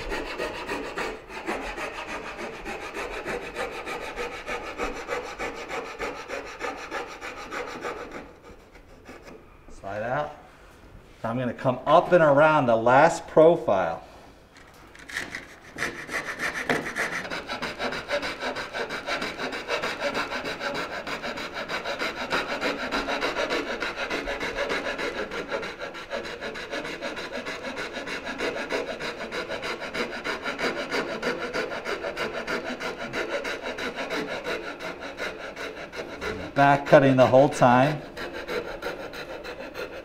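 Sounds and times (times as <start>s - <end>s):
coping saw cutting wood: 0.0s - 9.4s, 15.0s - 40.0s.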